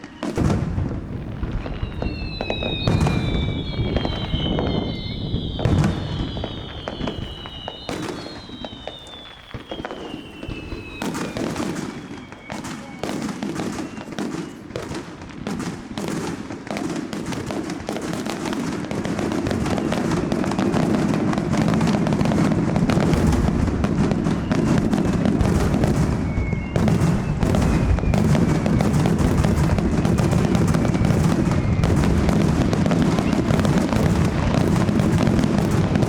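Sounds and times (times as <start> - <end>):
fireworks crackling and booming: 0.0 - 36.0.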